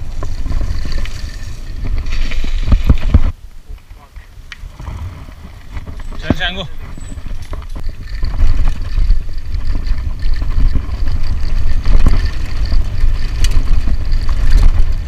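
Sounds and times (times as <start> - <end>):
bike clicks and knocks: 0.0 - 15.0
wind rumbling on microphone: 0.0 - 15.0.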